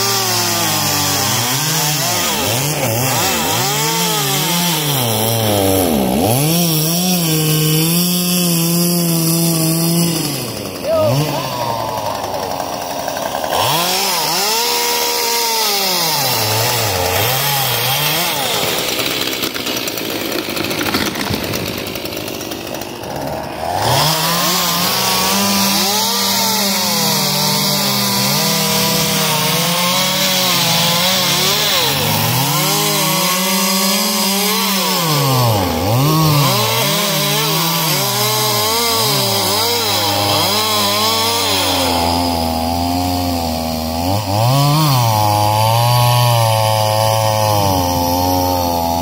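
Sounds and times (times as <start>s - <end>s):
chainsaw cutting wood: 0.0s - 49.0s.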